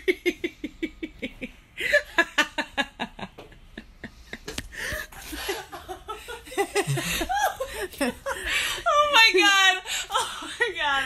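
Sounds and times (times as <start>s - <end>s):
woman laughing hard: 0.0s - 9.2s.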